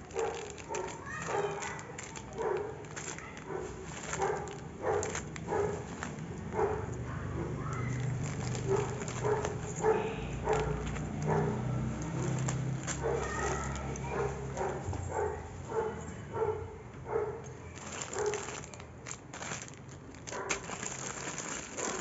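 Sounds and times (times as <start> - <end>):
plastic wrap crinkling: 0.0 - 15.3, 17.6 - 22.0
dog barking: 0.1 - 18.6, 20.3 - 20.7.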